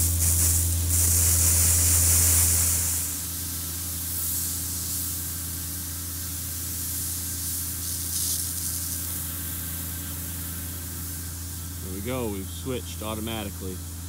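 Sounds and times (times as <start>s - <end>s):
irrigation heads hissing: 0.0s - 14.0s
steady low hum: 0.0s - 14.0s.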